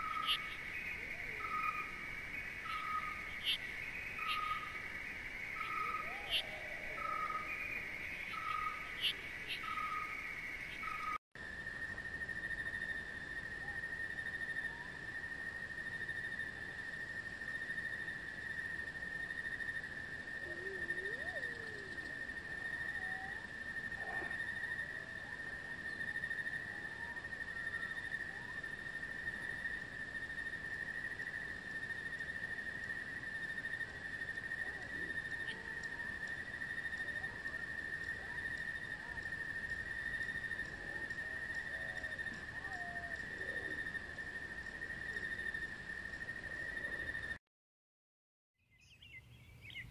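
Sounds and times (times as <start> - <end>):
insects trilling: 0.0 - 47.4
pulsing insect chirp: 0.0 - 47.4.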